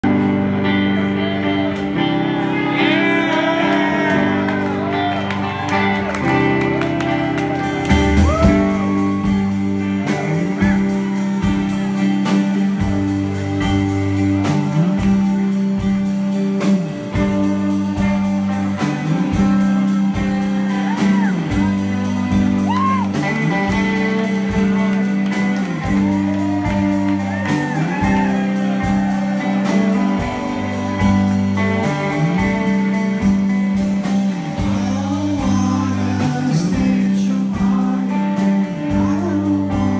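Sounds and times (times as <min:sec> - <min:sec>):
bass line: 0:00.0 - 0:39.9
drums: 0:00.0 - 0:39.9
electric guitars: 0:00.0 - 0:39.9.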